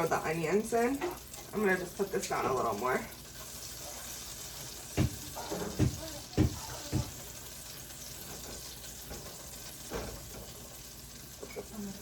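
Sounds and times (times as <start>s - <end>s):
butter sizzling in a saucepan: 0.0s - 12.0s.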